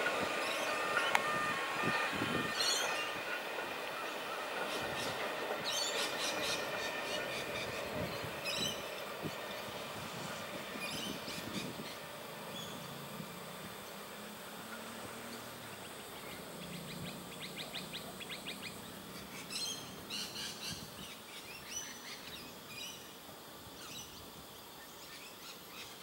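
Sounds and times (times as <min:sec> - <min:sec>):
faint hum of cars: 0:00.0 - 0:26.0.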